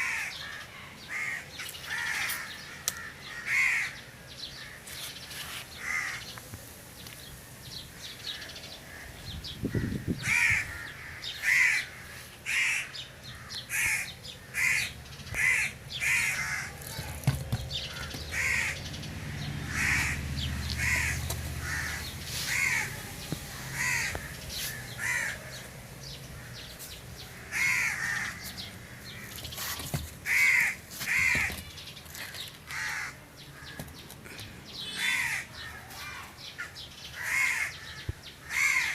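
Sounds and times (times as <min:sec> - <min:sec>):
crows cawing: 0:00.0 - 0:04.0, 0:05.8 - 0:06.3, 0:07.9 - 0:18.9, 0:19.6 - 0:29.5, 0:30.2 - 0:38.9.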